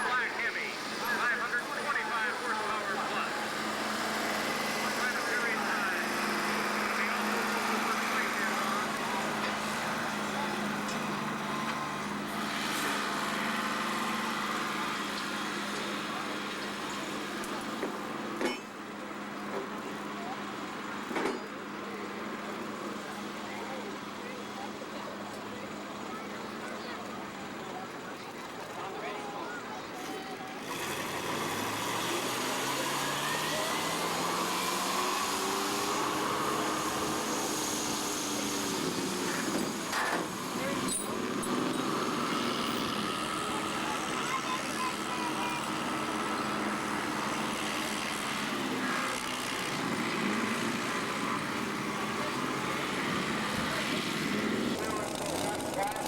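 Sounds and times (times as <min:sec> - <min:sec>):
tractor engine running: 0:00.0 - 0:20.8, 0:30.6 - 0:56.0.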